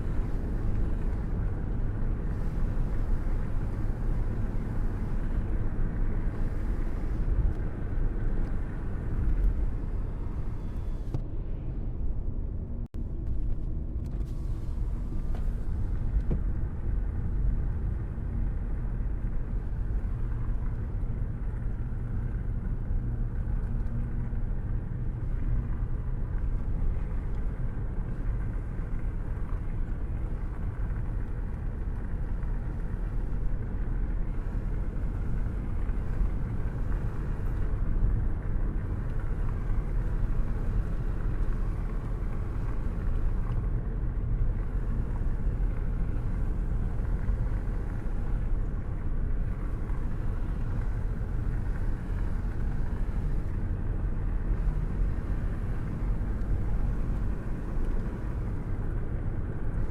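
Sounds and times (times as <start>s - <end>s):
muffled rain: 0.0s - 59.9s.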